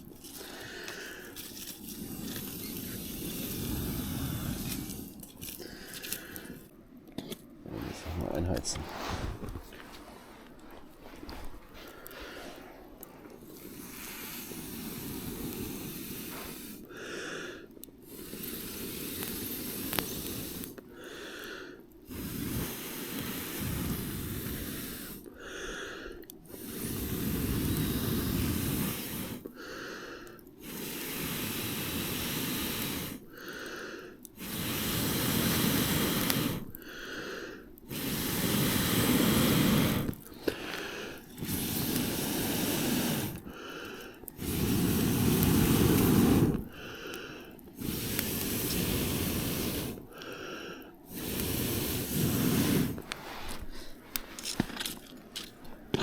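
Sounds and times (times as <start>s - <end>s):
person blowing on a campfire: 0.0s - 56.0s.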